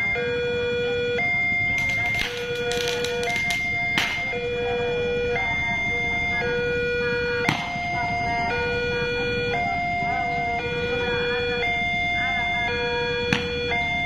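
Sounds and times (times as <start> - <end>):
two-tone crossing alarm: 0.0 - 14.0.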